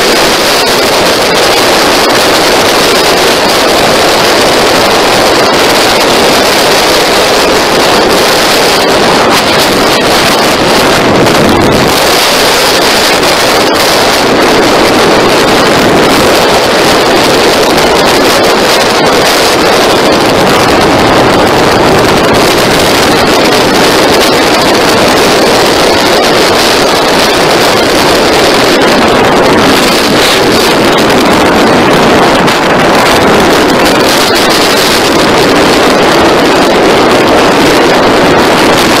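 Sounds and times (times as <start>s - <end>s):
road noise: 0.0s - 39.0s
wind noise on microphone: 0.0s - 39.0s.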